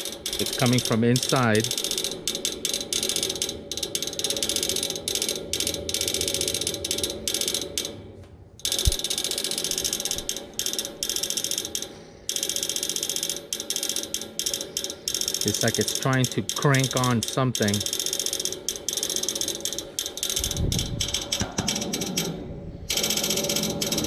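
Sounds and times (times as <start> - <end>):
air conditioner unit clicking rapidly: 0.0 - 24.0.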